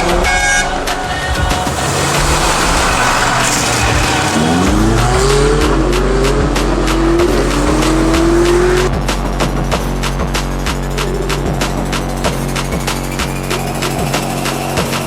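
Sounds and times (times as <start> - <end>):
car engine revving: 0.0 - 15.0
music with deep bass: 0.0 - 15.0.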